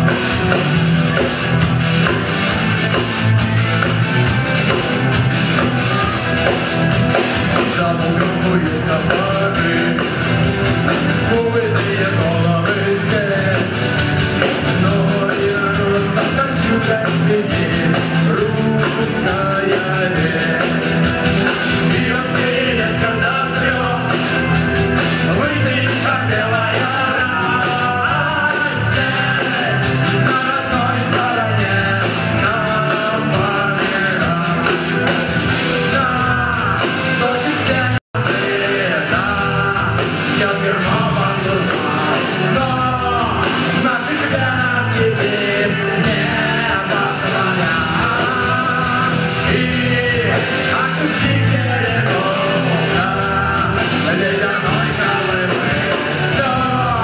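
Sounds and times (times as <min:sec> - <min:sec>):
live rock band playing: 0:00.0 - 0:57.0
steady drum beat: 0:00.0 - 0:57.0
person singing: 0:07.4 - 0:57.0.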